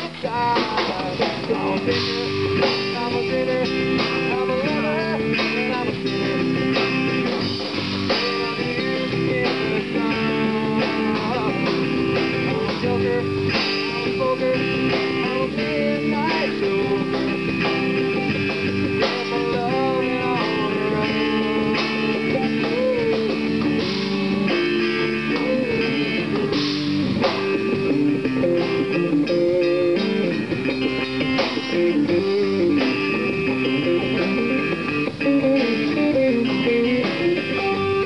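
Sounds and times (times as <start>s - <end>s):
bass guitar: 0.0s - 38.0s
drum kit: 0.0s - 38.0s
electric guitars bending notes: 0.0s - 38.0s.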